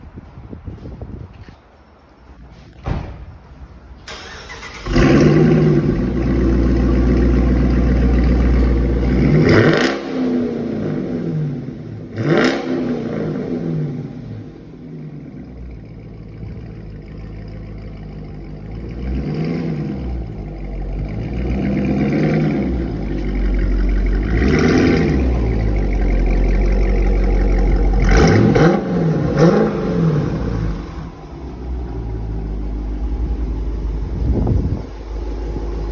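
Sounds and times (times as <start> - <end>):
car engine idling and revving: 4.1 - 35.9.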